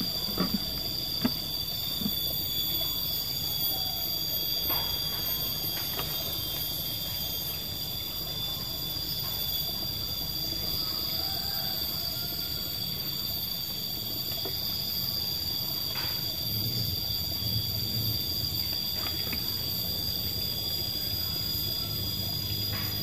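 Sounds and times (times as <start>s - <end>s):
shrill insect drone: 0.0s - 23.0s.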